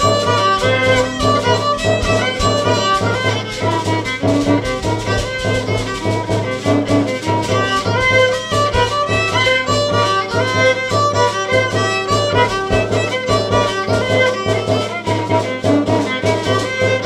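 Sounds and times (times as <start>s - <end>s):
fiddle melody: 0.0s - 17.0s
steady low beat: 0.0s - 17.0s.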